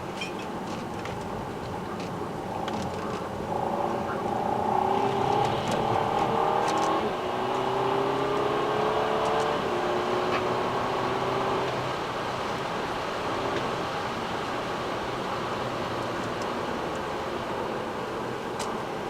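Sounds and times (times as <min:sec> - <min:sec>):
car engine accelerating: 0:02.6 - 0:18.5.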